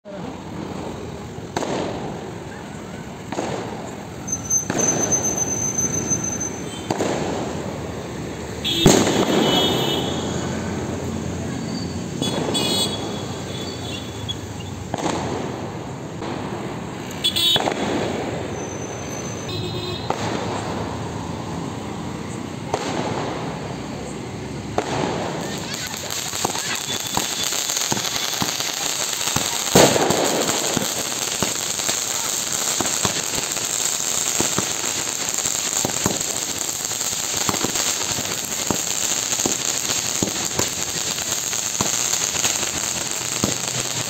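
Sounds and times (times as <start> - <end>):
fireworks bangs echoing: 0.1 - 44.0.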